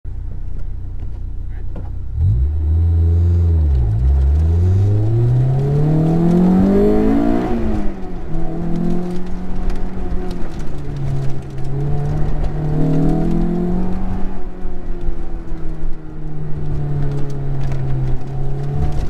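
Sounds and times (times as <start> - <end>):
car engine revving: 0.2 - 19.0.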